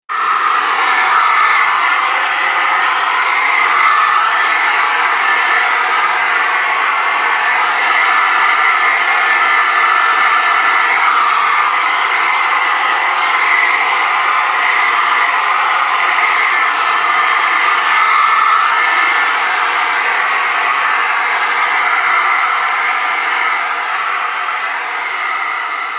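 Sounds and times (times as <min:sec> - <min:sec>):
hairdryer running: 0:00.0 - 0:25.9.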